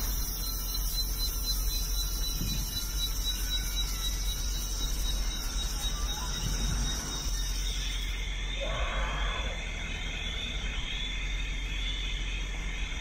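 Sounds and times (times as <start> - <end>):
shrill insect chorus: 0.0 - 13.0.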